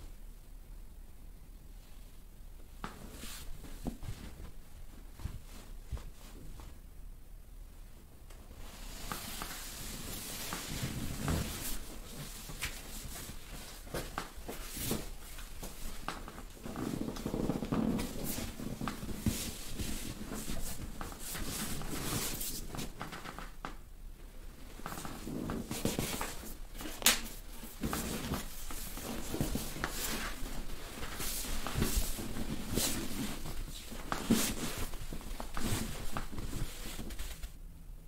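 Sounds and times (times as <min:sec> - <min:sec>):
clothing and towel rustling: 0:01.7 - 0:37.7.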